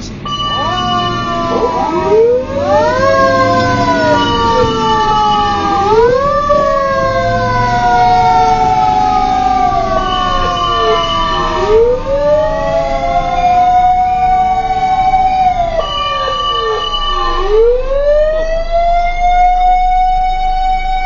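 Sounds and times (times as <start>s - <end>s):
low engine rumble: 0.0s - 21.0s
sirens wailing: 0.0s - 21.0s.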